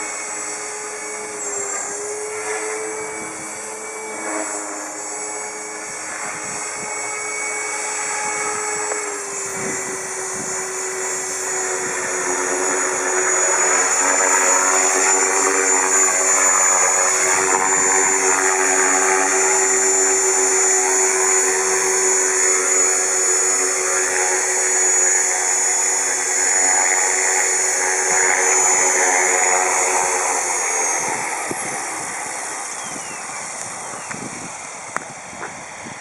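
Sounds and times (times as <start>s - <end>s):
high motor whine: 0.0s - 36.0s
rotor blades droning: 0.0s - 36.0s.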